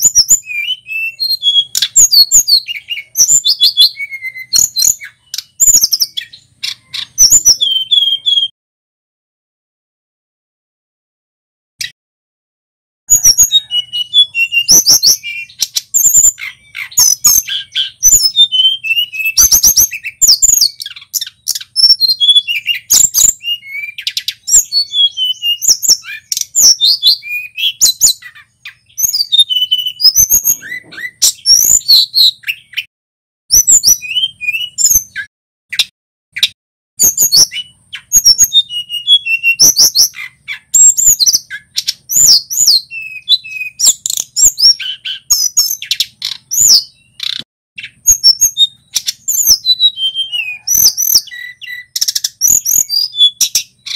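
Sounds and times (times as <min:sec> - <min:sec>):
bird singing chirps and trills: 0:00.0 - 0:08.5, 0:13.1 - 0:32.9, 0:33.5 - 0:53.9.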